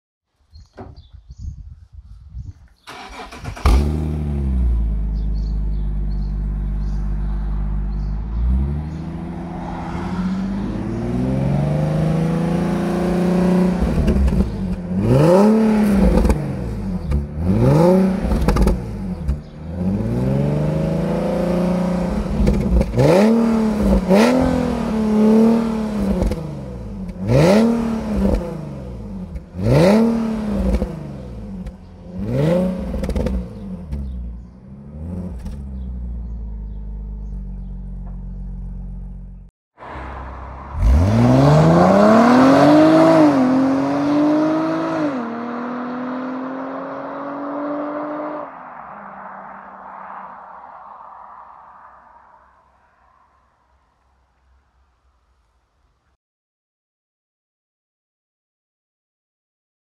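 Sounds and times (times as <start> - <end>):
car engine revving: 2.9 - 52.6.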